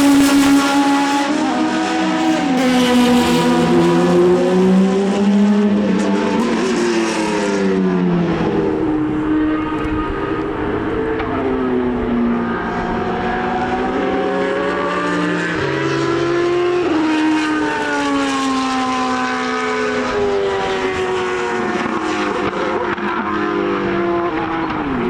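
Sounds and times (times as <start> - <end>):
racing car engines: 0.0 - 25.0.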